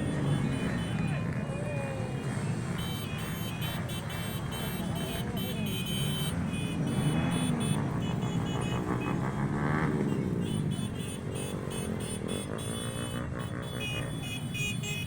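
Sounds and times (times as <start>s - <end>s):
engine revving: 0.0s - 14.5s
cars and motorcycles driving past: 0.0s - 15.0s.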